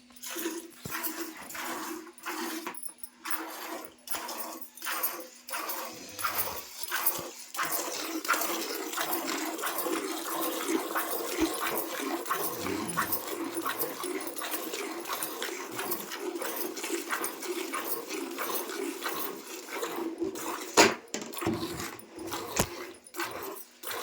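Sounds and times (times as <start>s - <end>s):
milk squirting into a pail: 3.2s - 20.7s, 21.4s - 24.0s.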